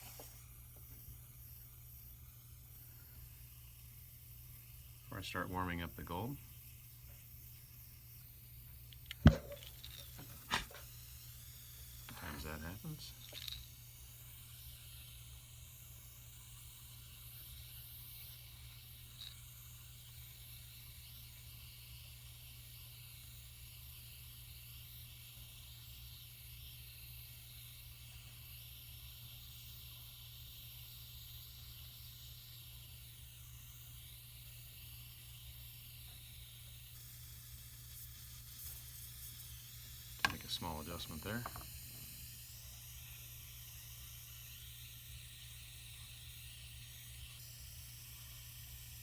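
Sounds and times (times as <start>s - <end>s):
gas torch flame hissing: 0.0s - 49.0s.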